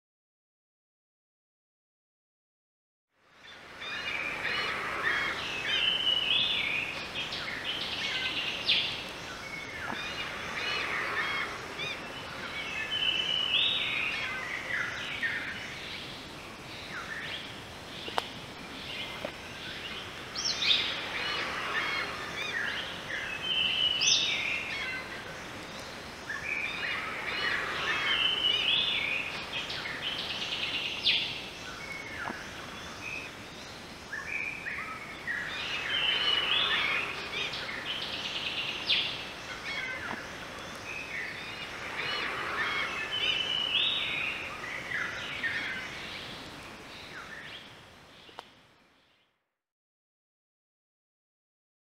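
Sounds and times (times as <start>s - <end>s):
forest ambience hiss: 3.1s - 49.4s
birds chirping and calling: 3.8s - 33.4s, 34.1s - 46.4s.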